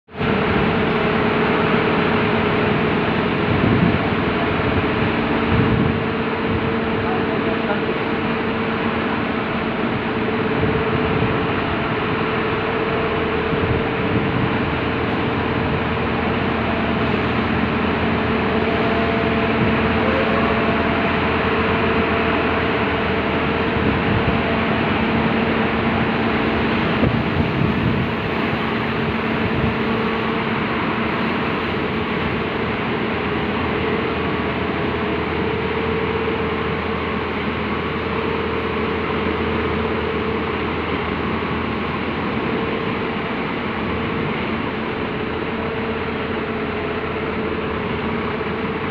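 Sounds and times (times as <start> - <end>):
constant machine hum: 0.1 - 48.9
washing machine wash noise: 0.1 - 48.9.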